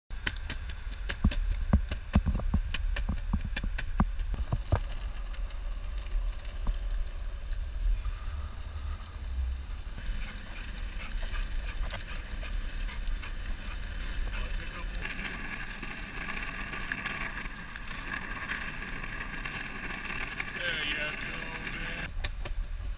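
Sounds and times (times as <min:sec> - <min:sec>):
longboard wheels rolling on asphalt: 0:00.2 - 0:22.9.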